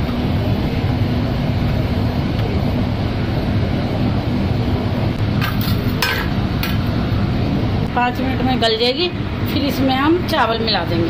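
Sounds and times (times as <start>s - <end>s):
faint hum: 0.0s - 11.0s
low mechanical rumble: 0.0s - 11.0s.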